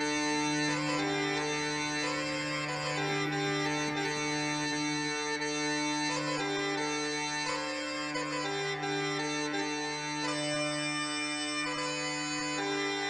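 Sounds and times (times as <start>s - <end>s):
bagpipe drone: 0.0s - 13.0s
bagpipe melody: 0.0s - 13.0s.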